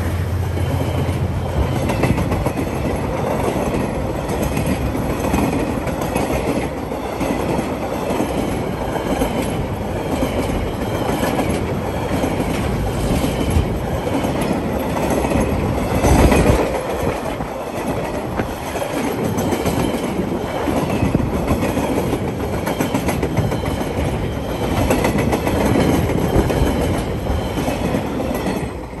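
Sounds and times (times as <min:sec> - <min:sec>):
train wheels clattering over rail joints: 0:00.6 - 0:28.8.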